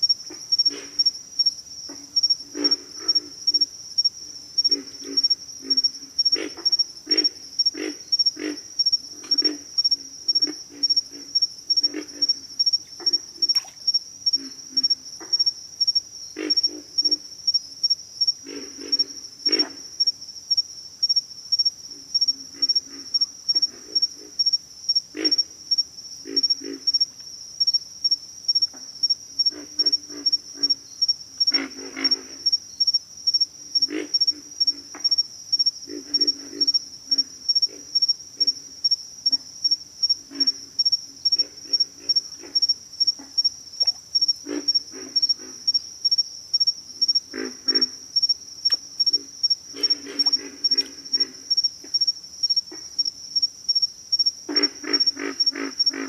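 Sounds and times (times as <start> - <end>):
frogs grunting: 0.0 - 17.6, 18.2 - 20.6, 21.6 - 27.7, 28.5 - 56.0
insects trilling: 0.0 - 56.0.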